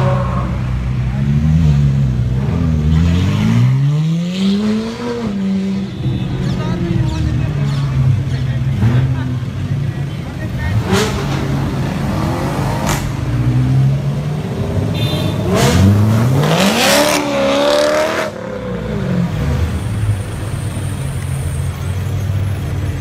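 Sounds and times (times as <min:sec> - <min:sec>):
sports car engines revving: 0:00.0 - 0:23.0.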